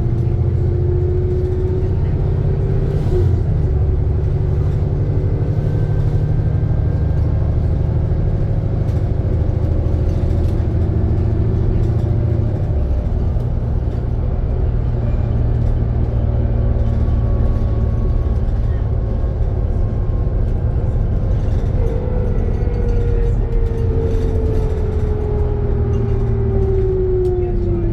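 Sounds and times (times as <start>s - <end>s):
bus engine droning: 0.0s - 27.9s.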